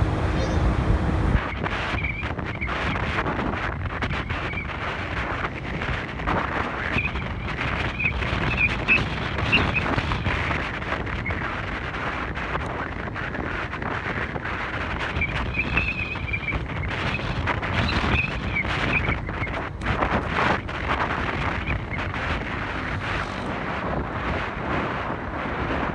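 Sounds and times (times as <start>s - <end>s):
motorcycle engine and road noise: 0.0s - 25.9s
wind buffeting microphone: 0.0s - 25.9s.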